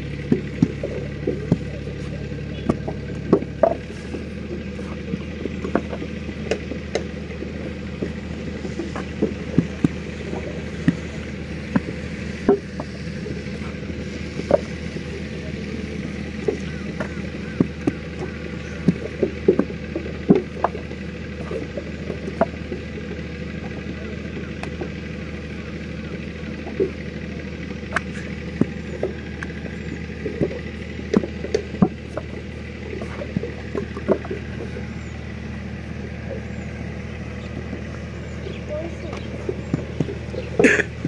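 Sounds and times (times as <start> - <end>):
low mechanical drone: 0.0 - 41.0.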